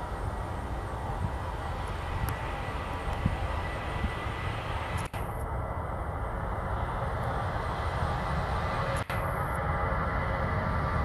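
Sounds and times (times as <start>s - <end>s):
jet engine whine: 0.0s - 11.0s
jet engines rumbling: 0.0s - 11.0s.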